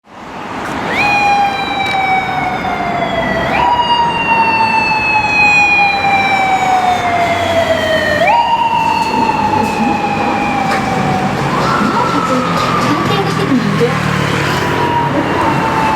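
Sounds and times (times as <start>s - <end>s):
road noise: 0.0s - 15.9s
motorcycle siren wailing: 0.8s - 15.9s.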